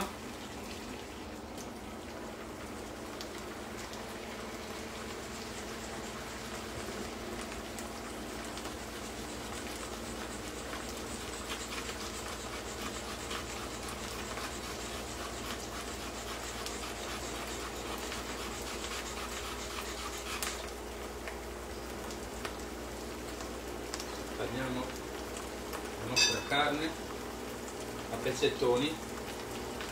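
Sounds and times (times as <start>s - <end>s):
onions sizzling in a pan: 5.2s - 29.9s.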